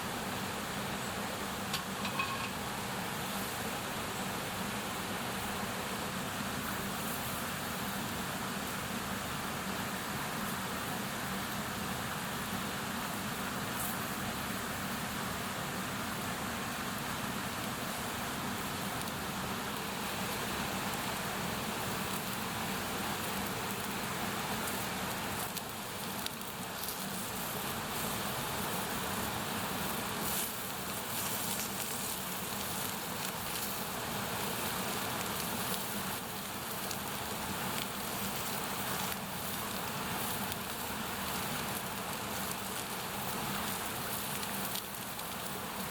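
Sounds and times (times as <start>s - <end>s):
bonfire crackling and hissing: 0.0s - 45.9s.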